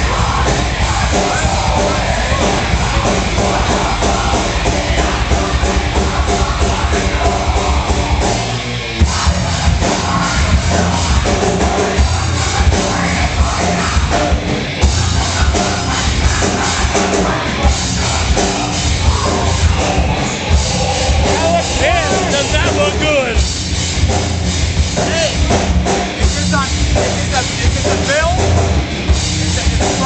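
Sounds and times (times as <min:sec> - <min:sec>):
loud rock music: 0:00.0 - 0:30.0.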